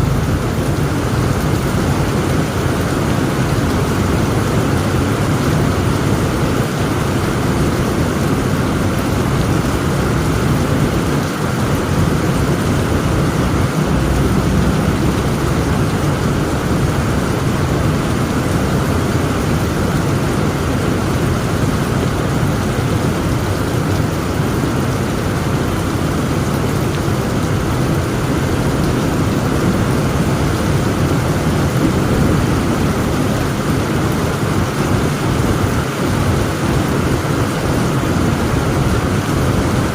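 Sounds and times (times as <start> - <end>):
thunder rumbling: 0.0 - 22.5, 26.2 - 39.9
heavy rain falling: 0.0 - 39.9.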